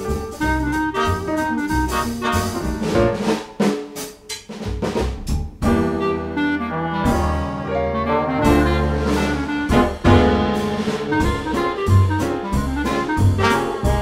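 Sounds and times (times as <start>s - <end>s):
upbeat jazz with brass and drums: 0.0s - 14.0s.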